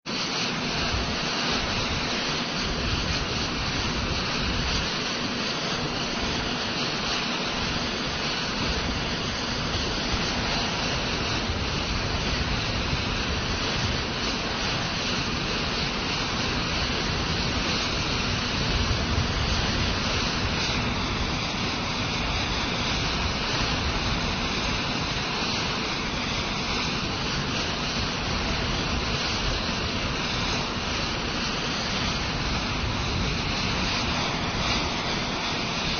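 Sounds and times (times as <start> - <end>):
jet engines idling: 0.1 - 35.9.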